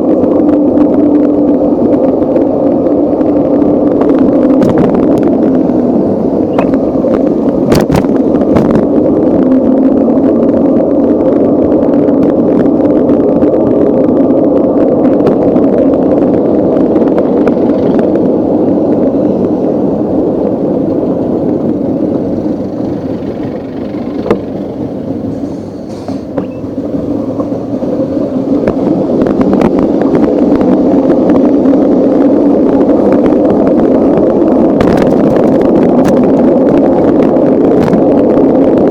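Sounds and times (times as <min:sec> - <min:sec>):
road noise: 0:00.0 - 0:38.9
wind rushing: 0:00.0 - 0:38.9.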